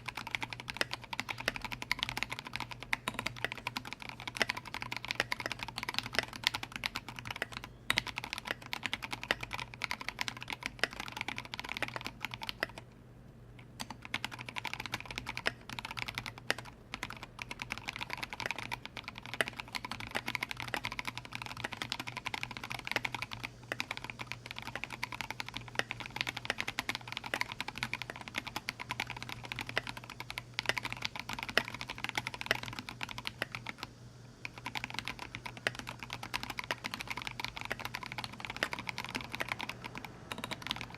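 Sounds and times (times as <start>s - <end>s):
typing on mechanical keyboard: 0.0s - 12.9s, 13.7s - 40.9s.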